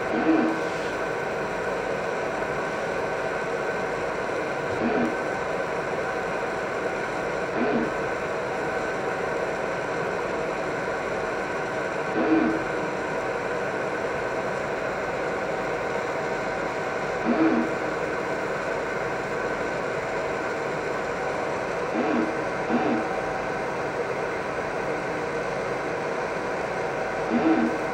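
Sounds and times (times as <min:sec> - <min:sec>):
laser marking machine whirring: 0:00.0 - 0:27.9.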